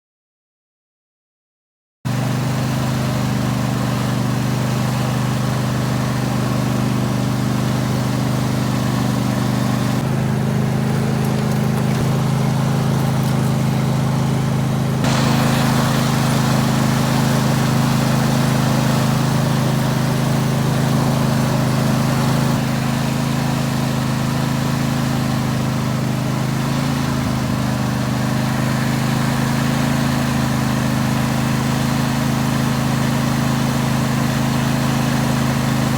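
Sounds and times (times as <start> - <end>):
lawn tractor engine running: 2.1 - 35.9.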